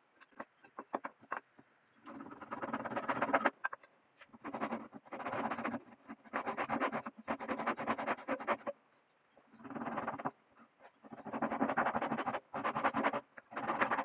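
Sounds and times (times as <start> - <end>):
rough scraping on wood: 0.2 - 8.8, 9.6 - 14.0.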